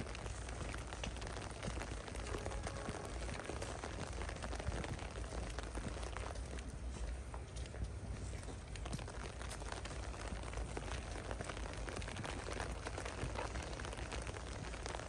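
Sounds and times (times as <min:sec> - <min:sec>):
rain on paving and grass: 0:00.0 - 0:15.0.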